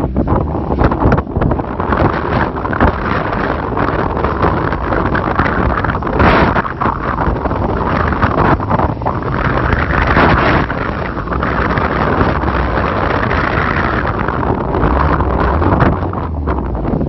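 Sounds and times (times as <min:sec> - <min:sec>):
off-road vehicle engine running: 0:00.0 - 0:17.0
wind noise on microphone: 0:00.0 - 0:17.0.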